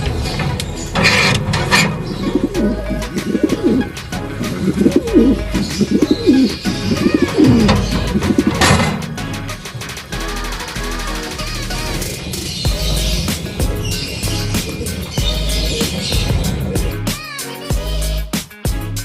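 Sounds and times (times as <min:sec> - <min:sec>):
pigeon cooing: 0:00.0 - 0:17.0.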